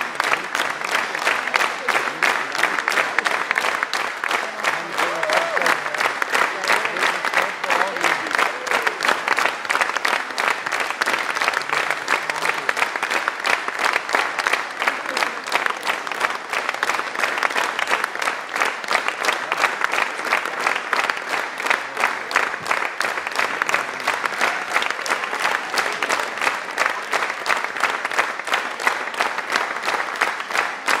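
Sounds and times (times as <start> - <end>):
audience applauding: 0.0 - 31.0.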